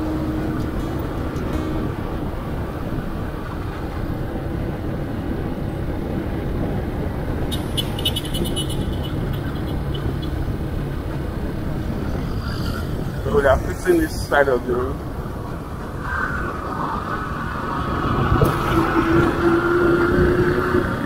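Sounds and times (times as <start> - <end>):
road and wind noise: 0.0 - 21.0.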